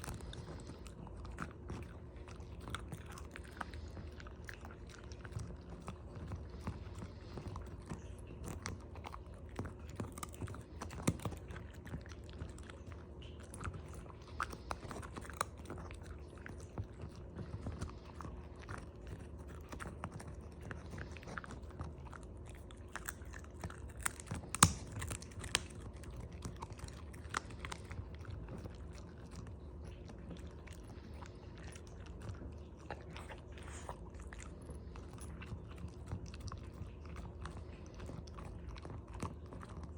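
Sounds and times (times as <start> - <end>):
dog chewing and crunching: 0.0 - 39.9.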